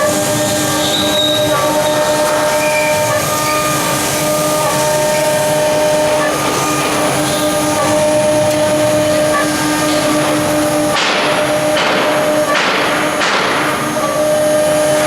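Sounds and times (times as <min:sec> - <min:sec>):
axis motors whining: 0:00.0 - 0:15.0
router spindle high whine: 0:00.0 - 0:15.0.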